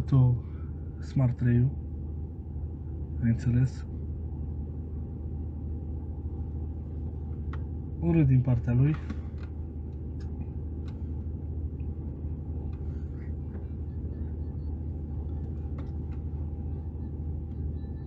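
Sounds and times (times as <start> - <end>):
car engine humming inside cabin: 0.0 - 18.0.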